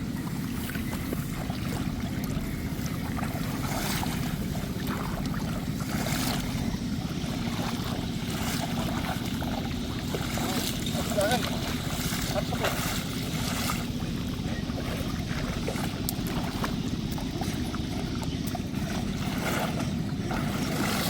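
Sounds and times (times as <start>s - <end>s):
engine-like drone: 0.0s - 21.0s
rushing water: 0.0s - 21.0s.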